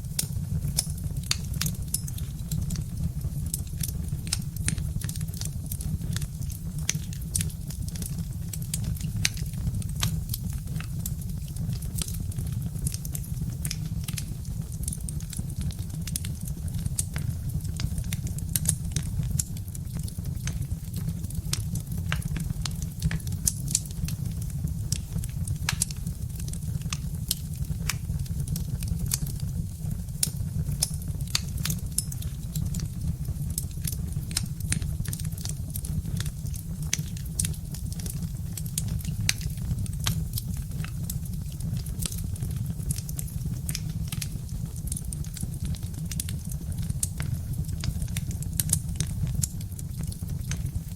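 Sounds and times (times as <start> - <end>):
low rumble of fire: 0.0 - 50.9
wood fire crackling: 0.0 - 50.9.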